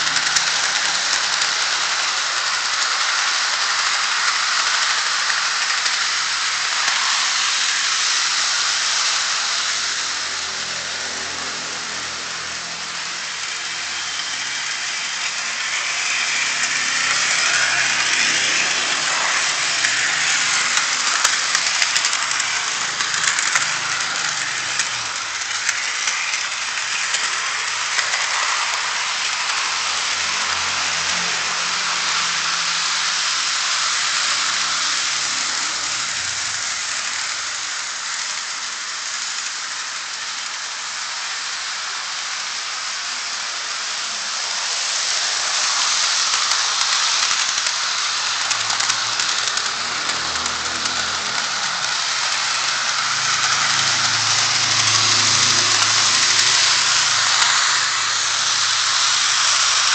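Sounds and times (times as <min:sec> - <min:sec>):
model train rattling on track: 0:00.0 - 0:59.9.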